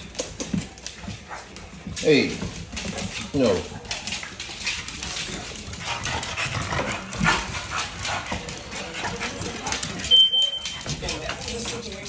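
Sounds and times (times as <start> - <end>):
dogs scuffling on hard floor: 0.0 - 12.0.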